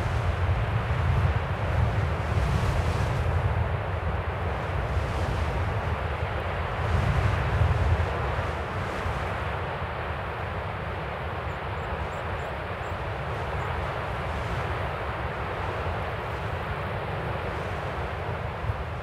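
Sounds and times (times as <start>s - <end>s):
strong wind over rough sea: 0.0s - 19.0s.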